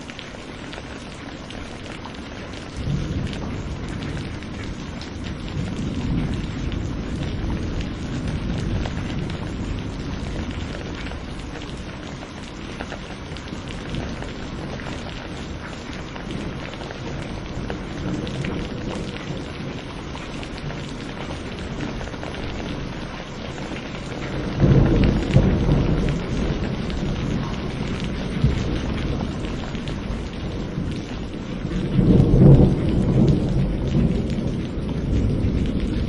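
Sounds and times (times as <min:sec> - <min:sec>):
steady rain: 0:00.0 - 0:36.0
low rolls of thunder: 0:02.7 - 0:36.0.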